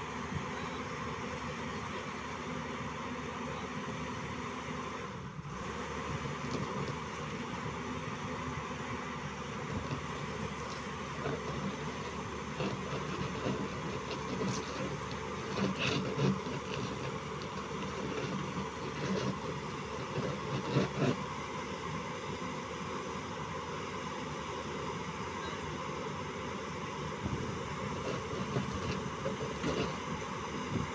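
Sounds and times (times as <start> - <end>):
tracked excavator running: 0.0 - 30.9.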